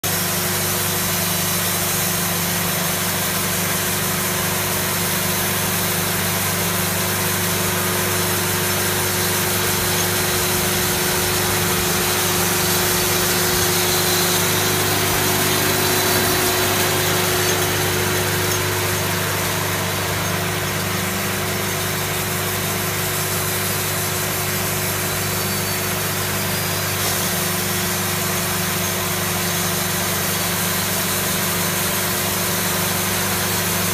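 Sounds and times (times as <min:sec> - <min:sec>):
band saw blade cutting log: 0:00.0 - 0:33.9
sawmill engine running: 0:00.0 - 0:33.9.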